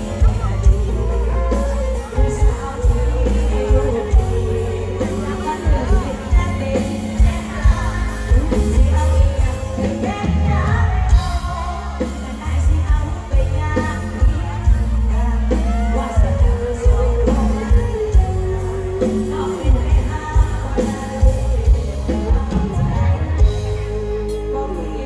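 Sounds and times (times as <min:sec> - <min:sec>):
amplified band with heavy bass: 0:00.0 - 0:25.0
woman singing into microphone: 0:00.0 - 0:25.0.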